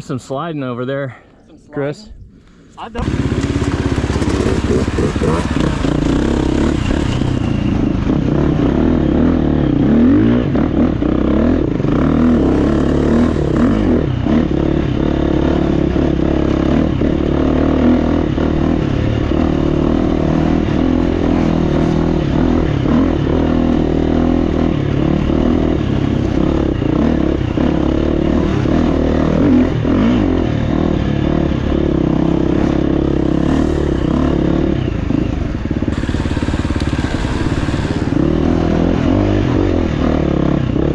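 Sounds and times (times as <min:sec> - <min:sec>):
dirt bike engine revving: 0:03.0 - 0:40.9.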